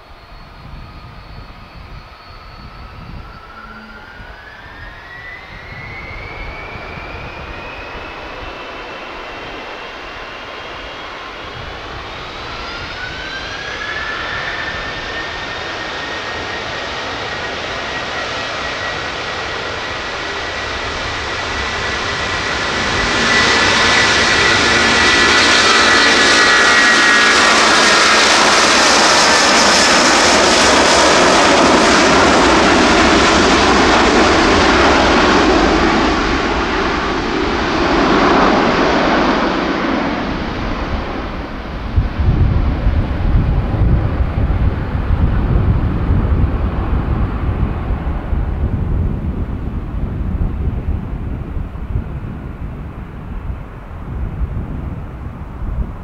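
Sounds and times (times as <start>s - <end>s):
jet engines spooling up: 0.0s - 56.0s
loud jet roar: 0.0s - 56.0s.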